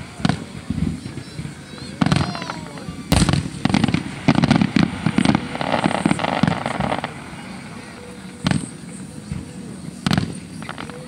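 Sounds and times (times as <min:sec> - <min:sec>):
crackling fireworks stars: 0:00.0 - 0:11.0
fireworks booming: 0:00.0 - 0:11.0.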